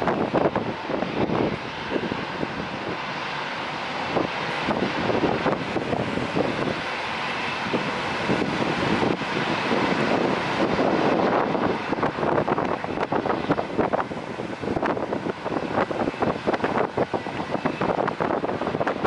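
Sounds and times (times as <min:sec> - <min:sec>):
jet airliner taxiing: 0:00.0 - 0:19.0
wind buffeting microphone: 0:00.0 - 0:19.0.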